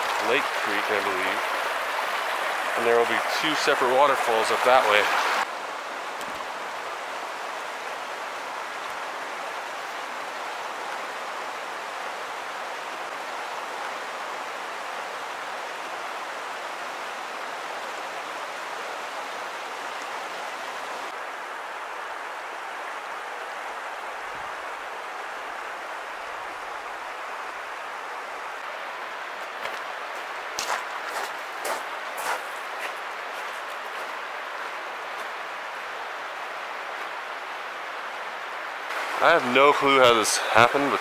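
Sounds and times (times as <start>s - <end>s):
water rushing over rocks: 0.0s - 41.0s.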